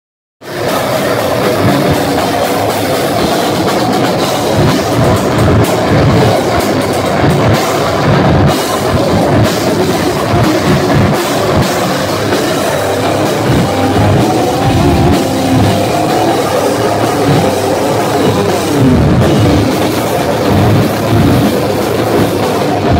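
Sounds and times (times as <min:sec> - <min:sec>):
heavy metal band playing live: 0:00.4 - 0:22.9
pounding drums and cymbals: 0:00.4 - 0:22.9.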